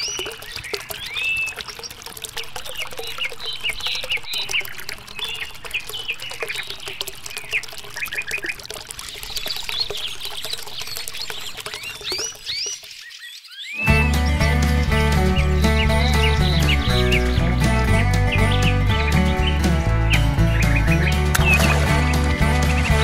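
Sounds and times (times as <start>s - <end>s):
birds chirping: 0.0s - 23.0s
water trickling into pool: 0.0s - 23.0s.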